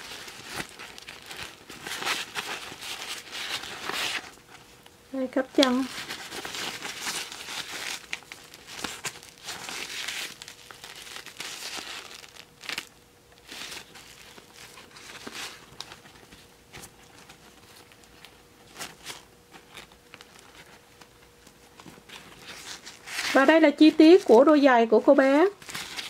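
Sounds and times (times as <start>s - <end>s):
fabric rustling and crinkling: 0.0s - 26.0s
faint steady hum: 0.0s - 26.0s.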